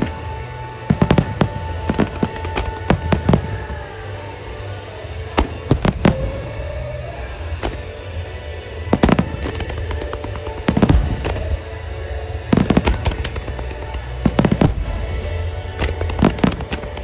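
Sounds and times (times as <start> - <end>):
fireworks bursting with cracks and bangs: 0.0 - 17.0
pop music over loudspeakers: 0.0 - 17.0.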